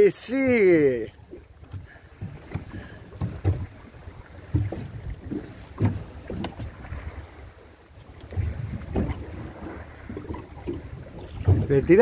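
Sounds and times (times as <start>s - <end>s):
water slapping and splashing: 0.0s - 12.0s
wind rumbling on microphone: 1.2s - 12.0s.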